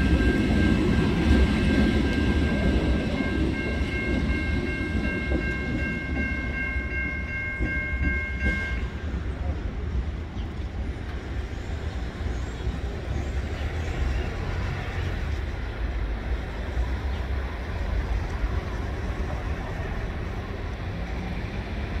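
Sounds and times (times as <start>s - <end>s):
locomotive engine rumbling: 0.0s - 22.0s.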